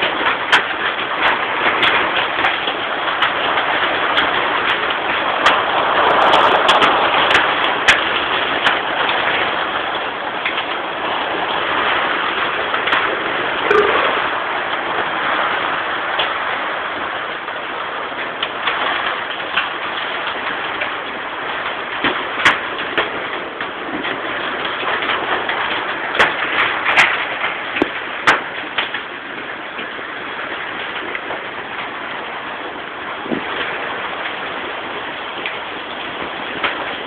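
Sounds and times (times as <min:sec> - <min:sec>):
hailstones ticking: 0:00.0 - 0:37.0
heavy rain hissing: 0:00.0 - 0:37.0.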